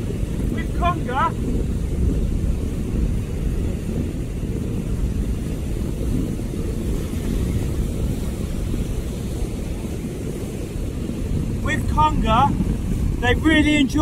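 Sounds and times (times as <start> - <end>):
rough surf: 0.0 - 14.0
wind buffeting microphone: 0.0 - 14.0.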